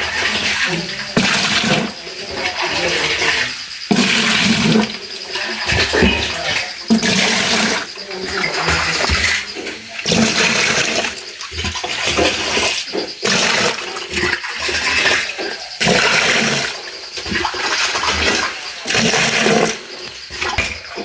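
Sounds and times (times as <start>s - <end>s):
water splashing and pouring: 0.0s - 21.0s.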